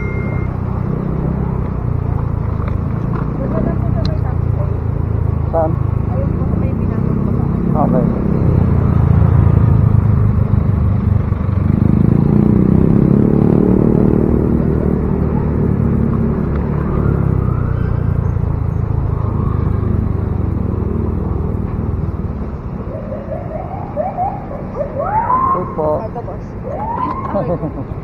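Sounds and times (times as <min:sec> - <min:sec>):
motorcycle engine running: 0:00.0 - 0:24.7
wind and road noise: 0:00.0 - 0:28.0.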